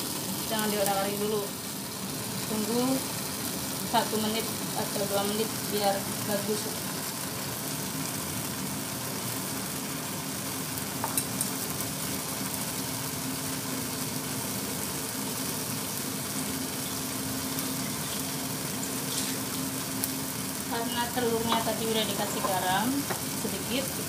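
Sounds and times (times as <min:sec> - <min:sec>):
eggs sizzling in oil: 0:00.0 - 0:24.0.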